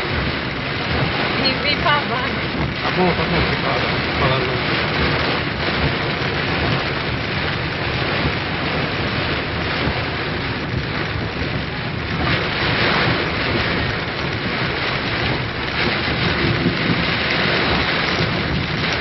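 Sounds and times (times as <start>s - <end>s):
heavy rain on vehicle: 0.0s - 19.0s
low rumble: 0.0s - 19.0s.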